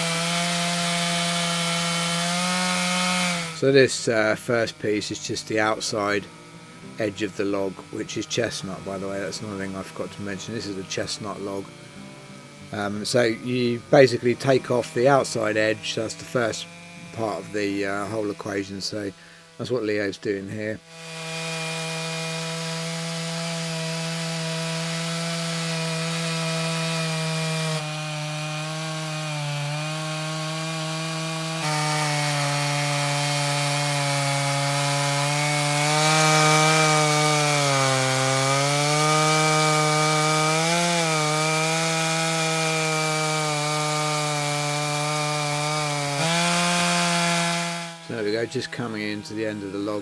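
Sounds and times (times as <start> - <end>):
chainsaw ripping through log: 0.0 - 50.0.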